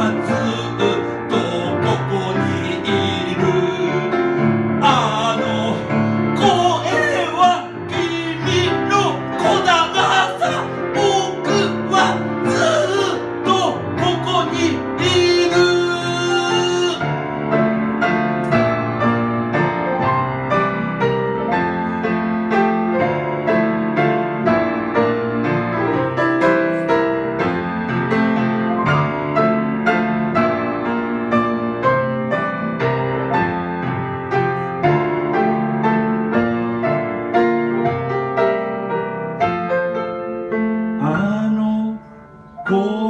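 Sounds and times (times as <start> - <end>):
piano playing chords and melody: 0.0 - 43.0.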